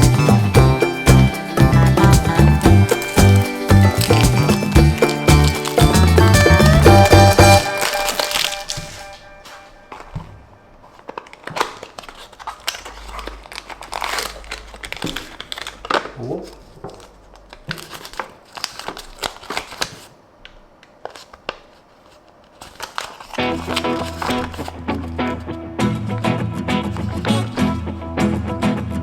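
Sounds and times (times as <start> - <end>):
packaging crinkling and rustling: 0.0 - 25.6.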